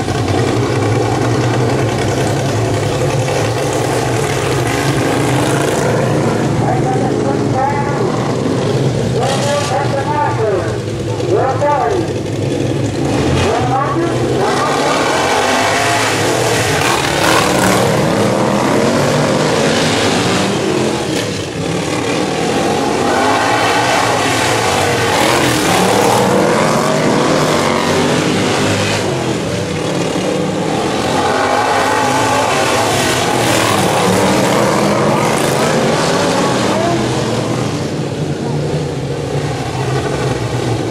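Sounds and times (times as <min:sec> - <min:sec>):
racing lawn mower engines: 0:00.0 - 0:40.9.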